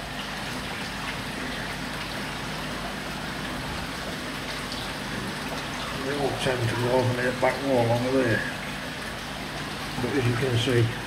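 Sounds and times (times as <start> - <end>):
low steady hum: 0.0 - 11.0
water splashing and trickling: 0.0 - 11.0.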